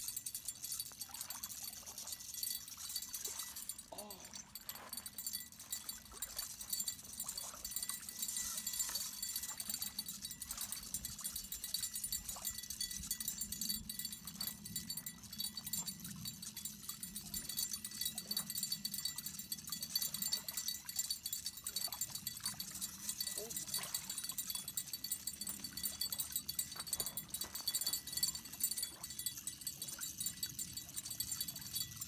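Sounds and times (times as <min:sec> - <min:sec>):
fishing reel drag paying out line: 0:00.0 - 0:32.0
small bell jingling: 0:00.0 - 0:32.0.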